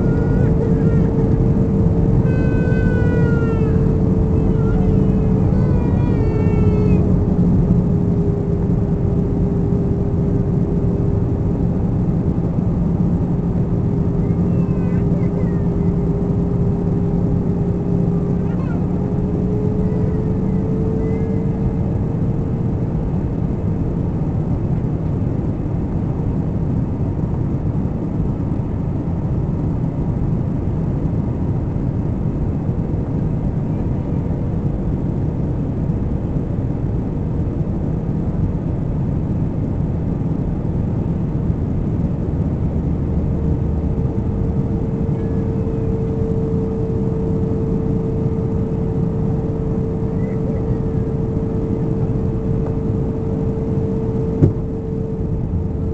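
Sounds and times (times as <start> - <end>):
airliner engine and airflow drone: 0.0 - 55.9
steady hum: 0.0 - 55.9.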